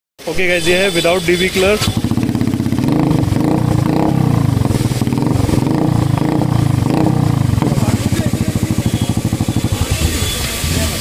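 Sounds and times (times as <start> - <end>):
motorcycle engine idling: 1.8 - 11.0.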